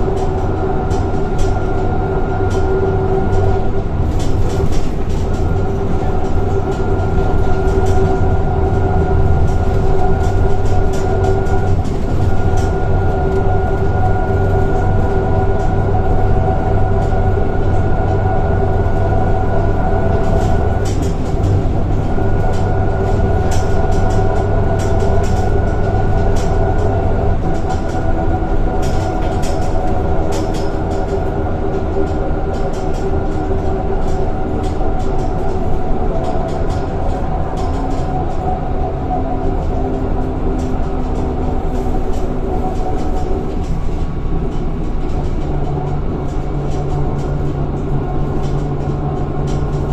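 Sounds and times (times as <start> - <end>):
bus engine rumble: 0.0 - 49.9.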